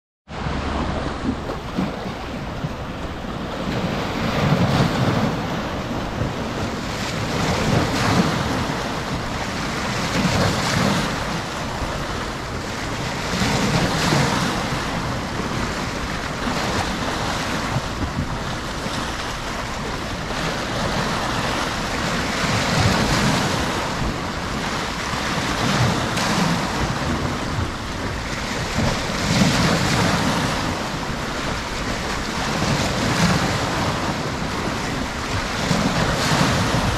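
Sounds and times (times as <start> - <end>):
waves breaking over rocks: 0.3 - 36.9.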